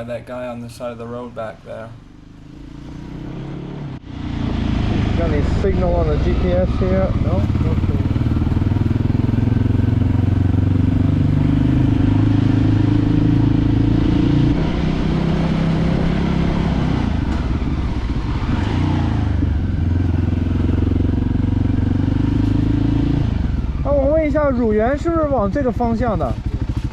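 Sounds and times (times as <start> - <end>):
motorcycle engine running: 2.0 - 26.9.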